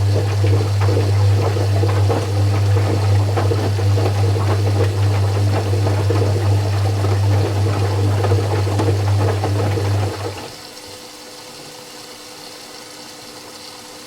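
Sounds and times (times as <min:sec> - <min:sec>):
washing machine drain pump humming: 0:00.0 - 0:13.7.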